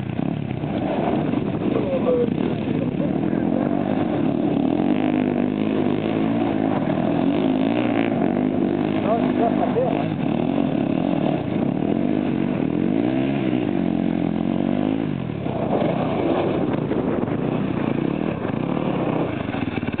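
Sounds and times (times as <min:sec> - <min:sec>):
quad engine revving: 0:00.0 - 0:20.0.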